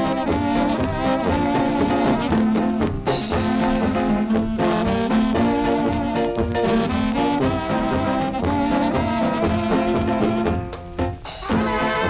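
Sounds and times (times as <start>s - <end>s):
brass band playing polka: 0.0s - 12.0s.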